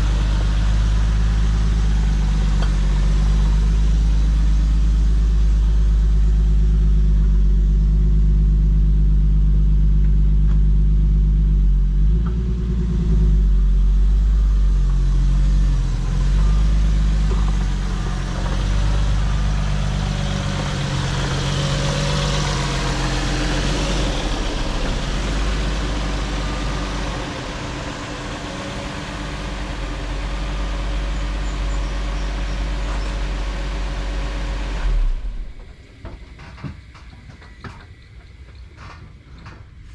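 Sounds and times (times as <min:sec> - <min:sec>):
car engine idling: 0:00.0 - 0:37.8.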